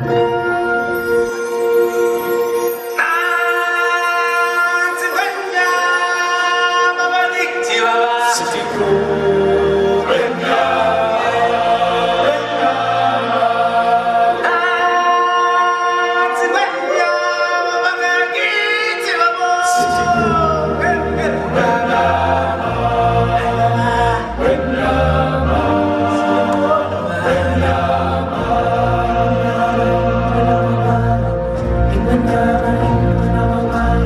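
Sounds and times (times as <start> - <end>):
choral singing over music: 2.0 - 34.0.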